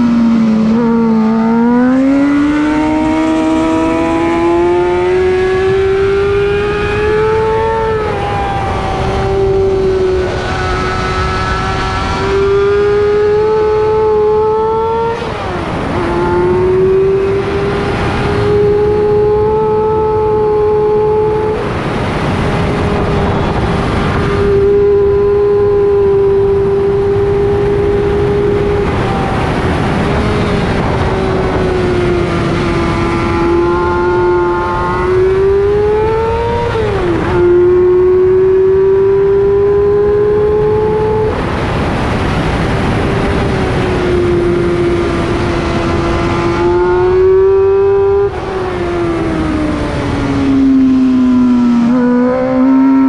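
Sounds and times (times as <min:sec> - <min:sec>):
motorcycle engine at high revs: 0:00.0 - 0:53.0
wind noise: 0:00.0 - 0:53.0.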